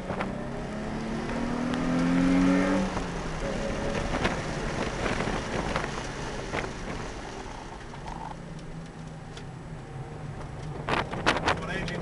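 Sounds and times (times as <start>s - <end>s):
tyre and wind noise: 0.0s - 8.4s, 9.5s - 12.0s
car engine hum: 0.0s - 12.0s.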